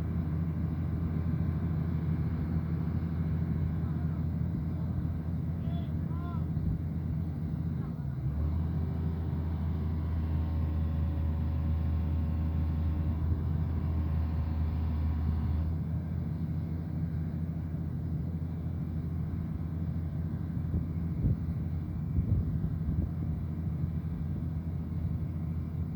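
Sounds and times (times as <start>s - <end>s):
excavator diesel engine running: 0.0s - 25.9s.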